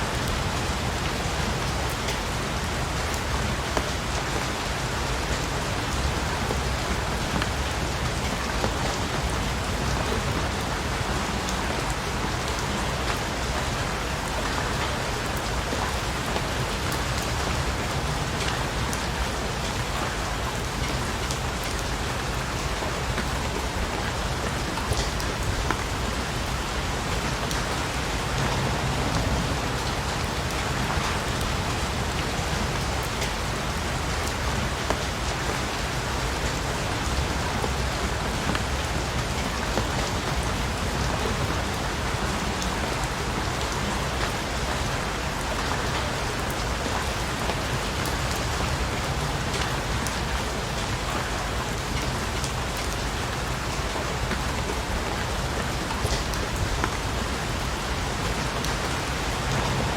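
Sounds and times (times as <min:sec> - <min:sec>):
steady rain falling: 0:00.0 - 0:59.9
raindrops tapping on surface: 0:00.1 - 0:59.9.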